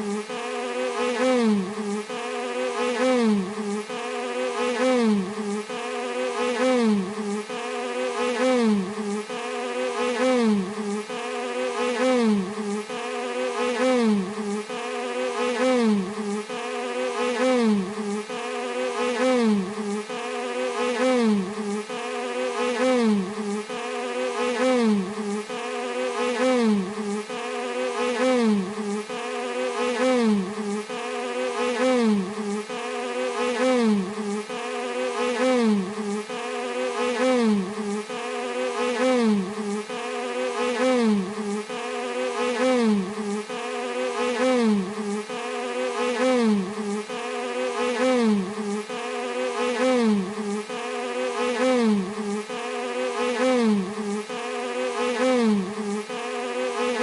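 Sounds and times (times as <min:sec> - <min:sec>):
bee buzzing: 0:00.0 - 0:57.0.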